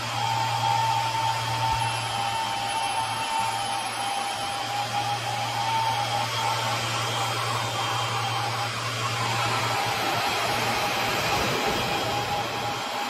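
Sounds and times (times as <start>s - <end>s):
faint steady whine: 0.0s - 13.0s
low hum: 0.0s - 13.0s
rushing fan noise: 0.0s - 13.0s.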